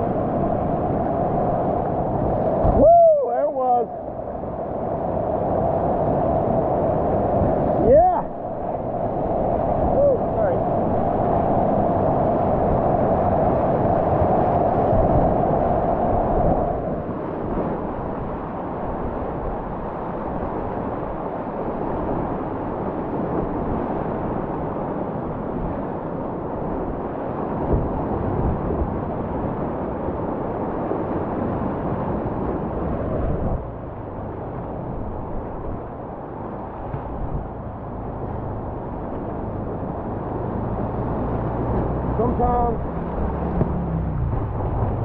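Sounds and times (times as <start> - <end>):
whitewater rapids rushing: 0.0 - 4.7, 5.4 - 16.5, 17.1 - 45.0.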